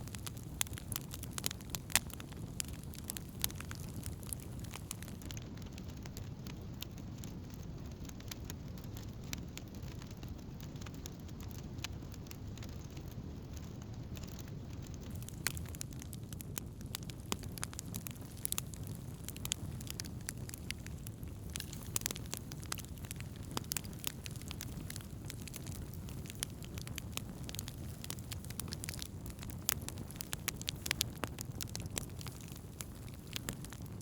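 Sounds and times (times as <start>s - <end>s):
campfire crackling and popping: 0.0s - 34.0s
low fire rumble: 0.0s - 34.0s.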